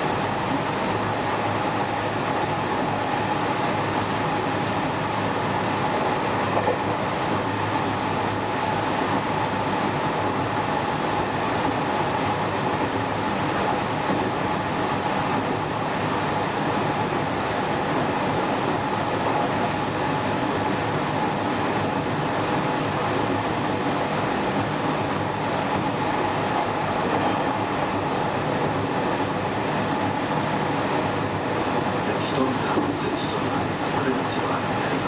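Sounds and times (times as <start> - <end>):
wheels rumbling on rail: 0.0 - 35.0.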